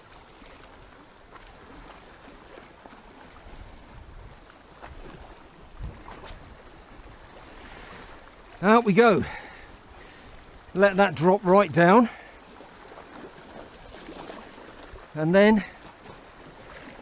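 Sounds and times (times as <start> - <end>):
sea washing over rocks: 0.0 - 17.0.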